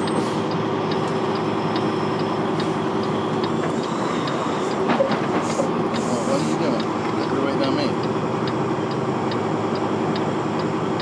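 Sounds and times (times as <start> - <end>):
diesel engine idling: 0.0 - 11.0
turn signal ticking: 0.0 - 11.0.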